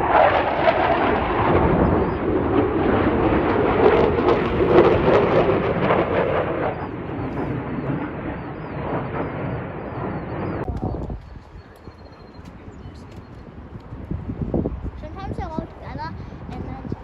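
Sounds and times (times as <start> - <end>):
distant fighter jet roar: 0.0 - 17.0.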